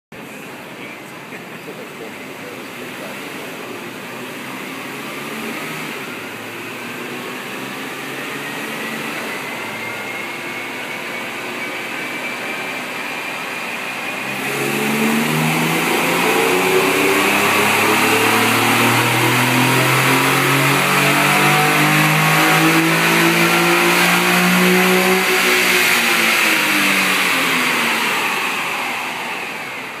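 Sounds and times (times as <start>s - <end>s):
car engine revving on dyno: 1.7s - 30.0s.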